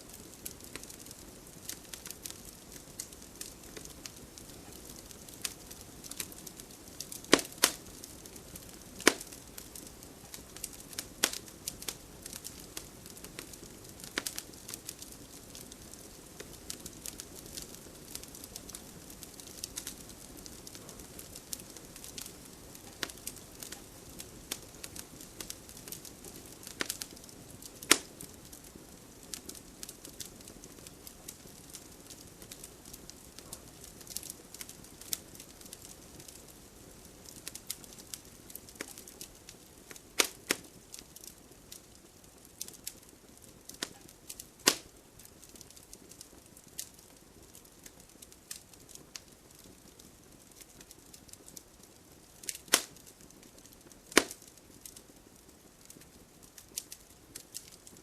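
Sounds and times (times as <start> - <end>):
low hiss: 0.0 - 58.0
wood fire crackling: 0.0 - 58.0.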